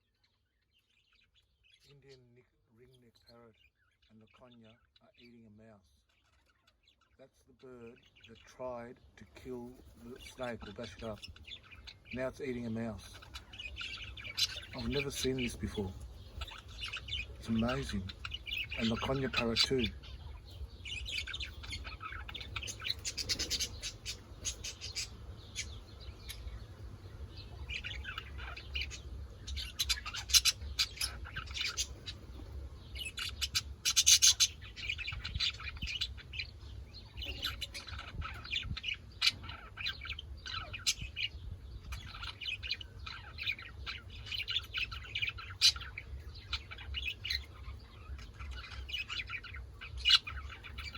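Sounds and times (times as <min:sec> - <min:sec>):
parrots chirping: 0:00.0 - 0:50.9.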